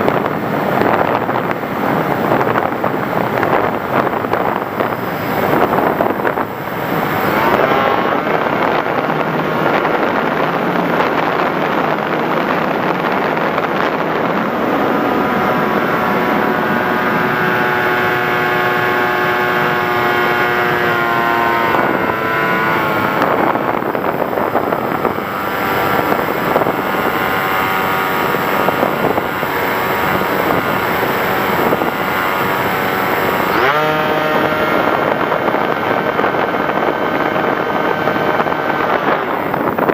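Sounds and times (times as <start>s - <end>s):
model aircraft motor whine: 0.0s - 39.9s
wind rush on microphone: 0.0s - 39.9s.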